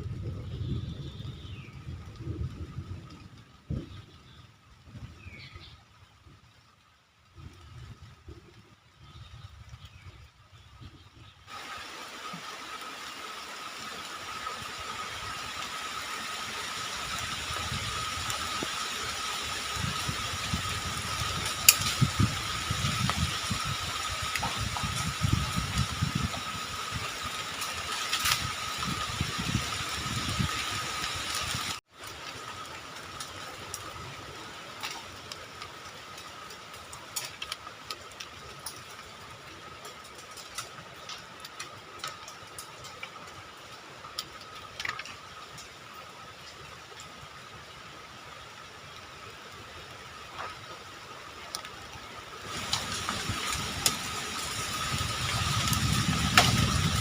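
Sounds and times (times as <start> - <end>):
wind rumbling on microphone: 0.0 - 57.0
steady hiss: 10.2 - 57.0.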